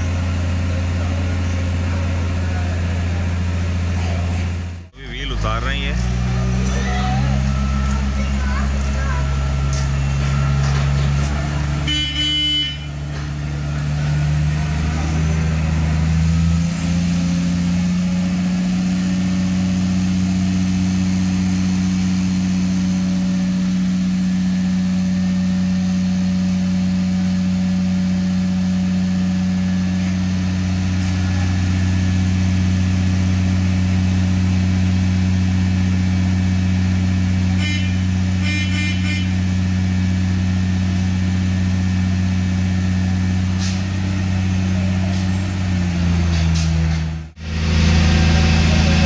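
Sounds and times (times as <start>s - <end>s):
diesel engine running under load: 0.0s - 49.0s.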